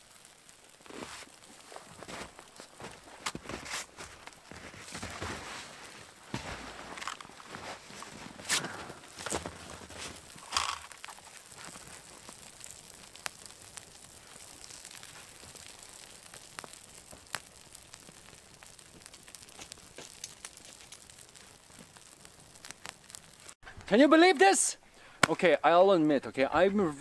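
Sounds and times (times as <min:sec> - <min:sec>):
wood fire crackling and popping: 0:00.0 - 0:26.7
footstep crunching in snow: 0:00.6 - 0:13.2, 0:14.1 - 0:23.6.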